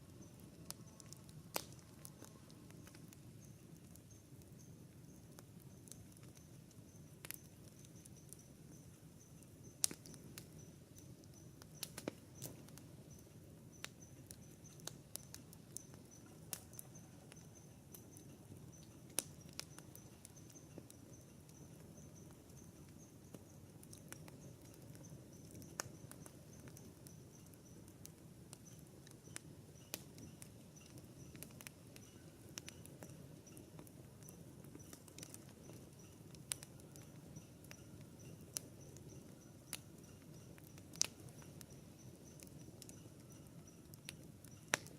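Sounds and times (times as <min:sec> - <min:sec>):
campfire wood crackling: 0:00.0 - 0:44.9.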